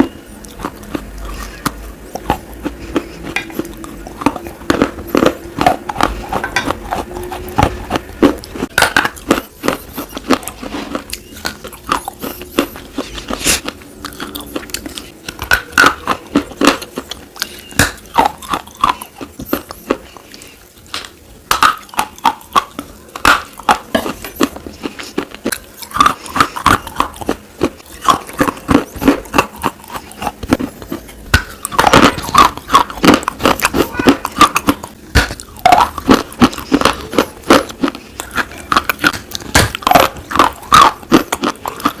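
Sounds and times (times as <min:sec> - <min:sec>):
slate crunching being chewed: 0:00.0 - 0:42.0.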